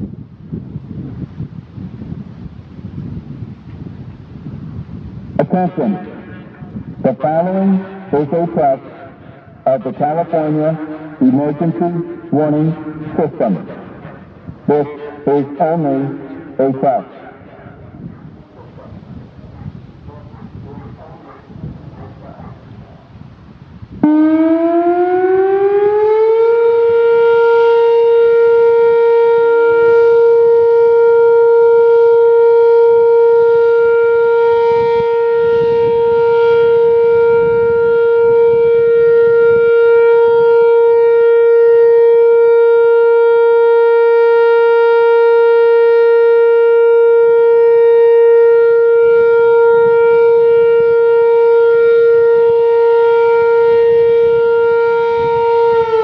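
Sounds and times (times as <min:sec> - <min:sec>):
outdoor warning siren steady tone: 0:00.0 - 0:56.0
wind buffeting microphone: 0:00.0 - 0:56.0.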